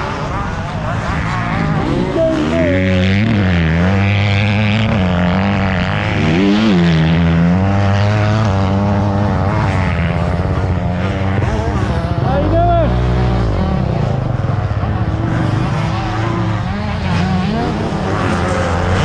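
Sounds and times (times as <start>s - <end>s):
motorbike engines idling with revs: 0.0s - 19.0s.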